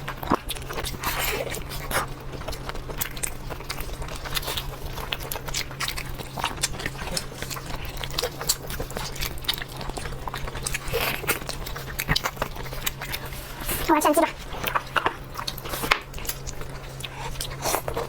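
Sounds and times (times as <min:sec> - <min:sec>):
steady low hum: 0:00.0 - 0:18.0
wet chewing and smacking: 0:00.0 - 0:18.0.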